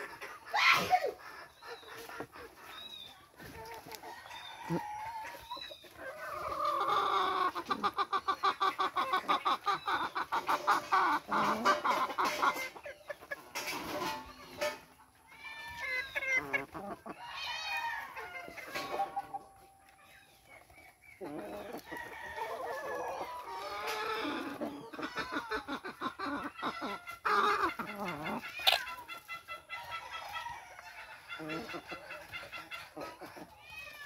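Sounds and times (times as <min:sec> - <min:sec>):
hens clucking: 0:00.0 - 0:34.0.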